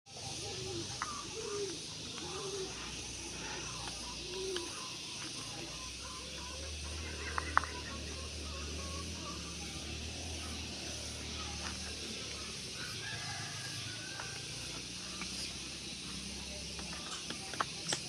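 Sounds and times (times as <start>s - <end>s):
steady hiss: 0.1s - 18.0s.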